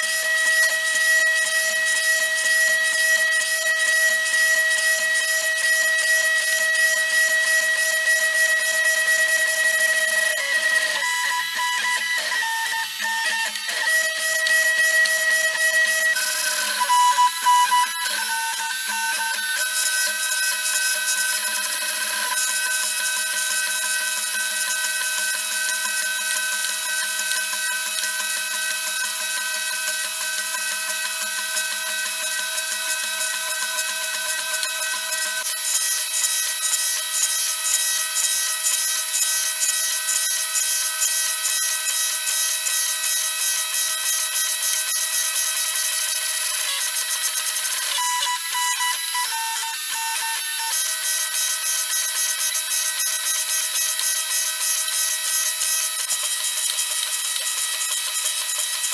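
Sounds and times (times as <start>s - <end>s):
stepper motors whining: 0.0s - 58.9s.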